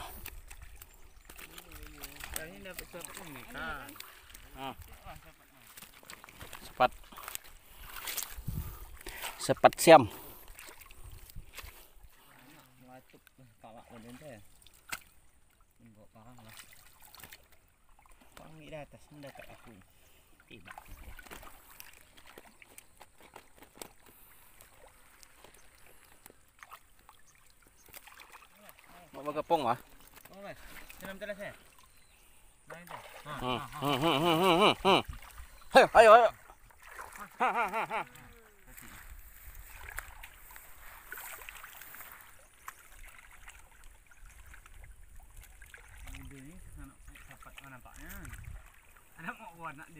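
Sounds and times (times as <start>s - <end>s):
pond water sloshing and splashing: 0.0s - 49.9s.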